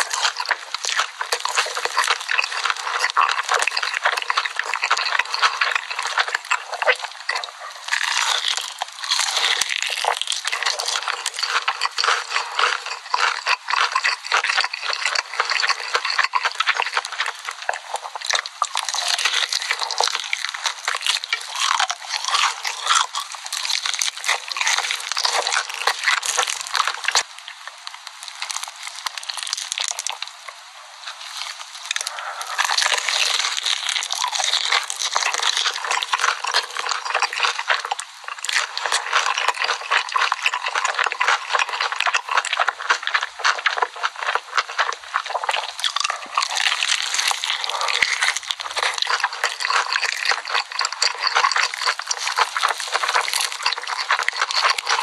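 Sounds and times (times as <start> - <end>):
crunching and wet chewing: 0.0 - 55.0.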